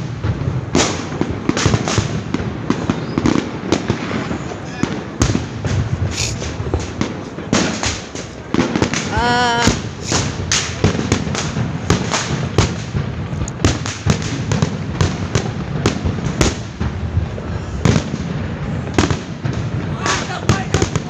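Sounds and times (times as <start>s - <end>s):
continuous rumble: 0.0s - 21.0s
fireworks bangs and cracks: 0.0s - 21.0s.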